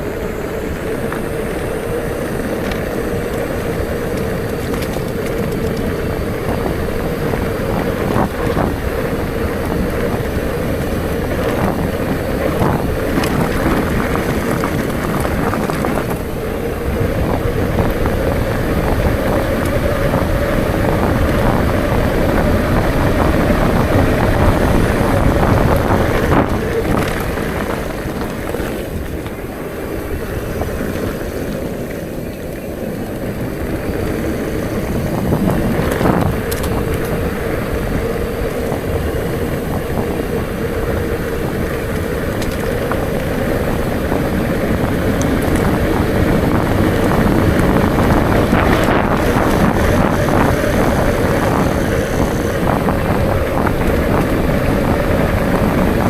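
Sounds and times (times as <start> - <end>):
rolling tyre noise: 0.0 - 56.0
small ticks from road surface: 0.0 - 56.0
steady hum: 0.0 - 56.0
wind buffeting microphone: 0.0 - 56.0.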